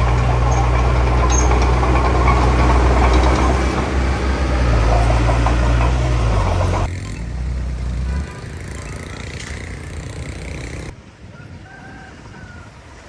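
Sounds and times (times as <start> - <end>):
heavy diesel machinery running: 0.0 - 10.9.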